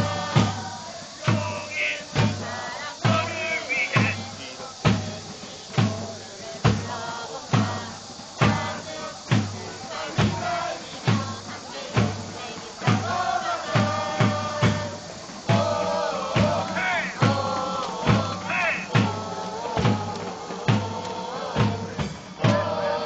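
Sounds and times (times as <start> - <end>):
bass drum beat: 0.0 - 23.0
football supporters chanting: 0.0 - 23.0.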